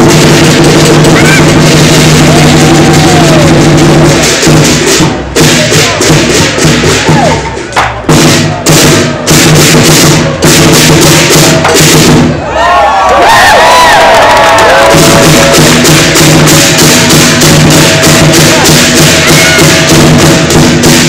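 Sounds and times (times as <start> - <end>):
cymbals clashing: 0.0 - 12.4, 14.6 - 21.0
large drum beating: 0.0 - 12.5, 13.2 - 21.0.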